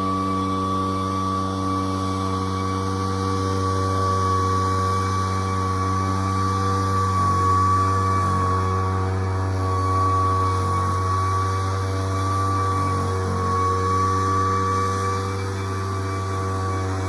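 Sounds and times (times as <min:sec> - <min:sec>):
leaf blower engine running: 0:00.0 - 0:17.0.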